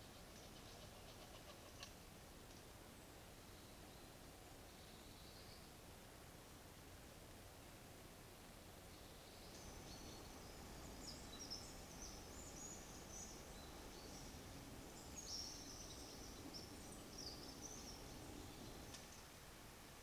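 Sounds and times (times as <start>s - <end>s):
low steady background hiss: 0.0s - 20.0s.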